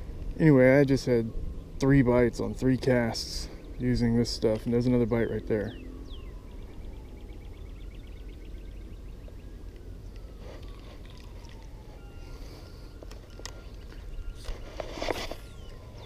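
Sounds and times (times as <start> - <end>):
faint drawn-out whine: 0.0 - 16.0
steady low rumble: 0.0 - 16.0.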